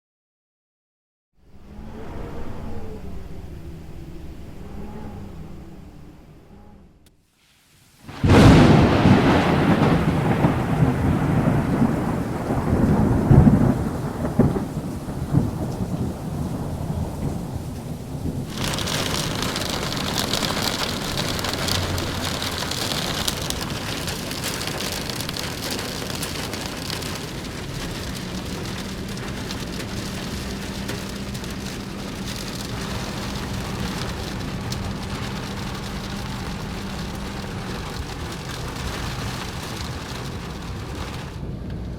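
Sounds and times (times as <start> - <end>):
strong wind gusts: 1.4 - 7.0, 8.0 - 41.9
rain hissing: 7.2 - 41.9.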